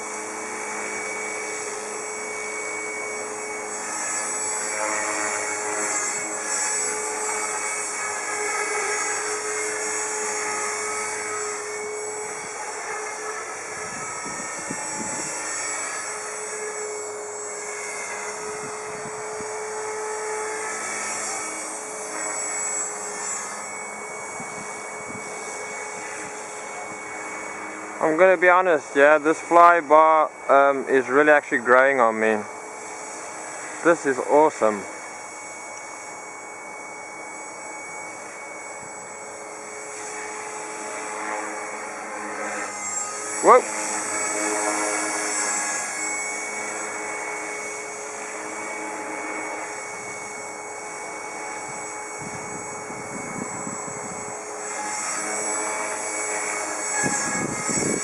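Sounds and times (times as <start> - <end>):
rc helicopter motor whine: 0.0 - 58.0
rotor blades humming: 0.0 - 58.0.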